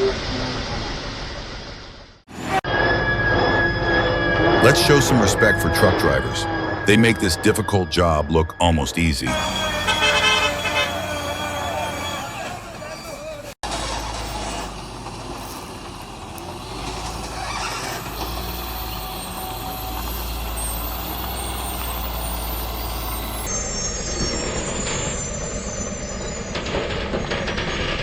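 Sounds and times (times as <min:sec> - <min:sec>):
heavy truck engine rumble: 0:00.0 - 0:28.0.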